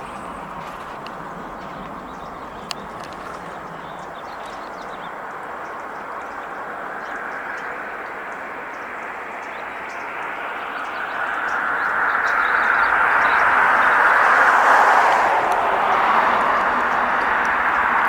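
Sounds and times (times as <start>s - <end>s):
road vehicle approaching: 0.0s - 18.0s.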